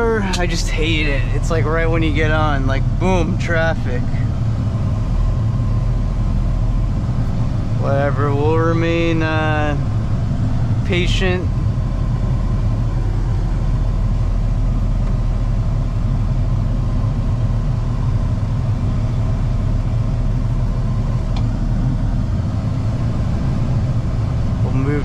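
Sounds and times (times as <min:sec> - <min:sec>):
pickup truck engine drone: 0:00.0 - 0:25.0
road noise: 0:00.0 - 0:25.0.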